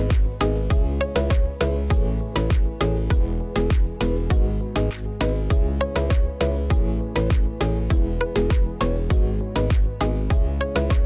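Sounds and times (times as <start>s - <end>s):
music with punchy drum beat: 0.0s - 11.0s.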